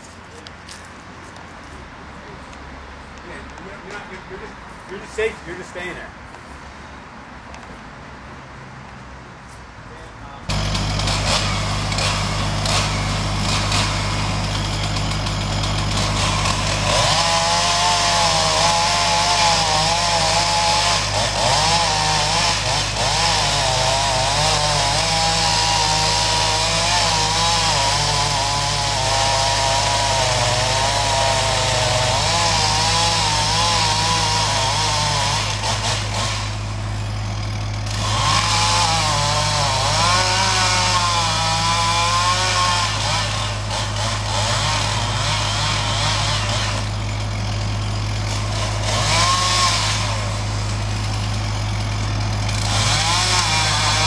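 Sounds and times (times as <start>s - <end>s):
chainsaw cutting wood: 10.5s - 54.0s.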